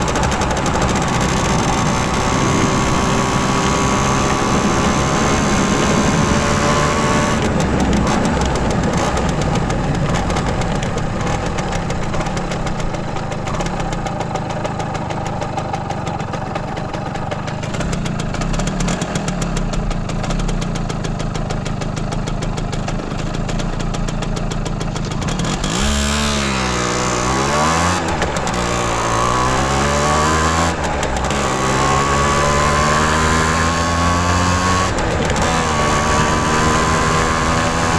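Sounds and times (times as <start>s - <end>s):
two-stroke moped engine running: 0.0s - 37.9s.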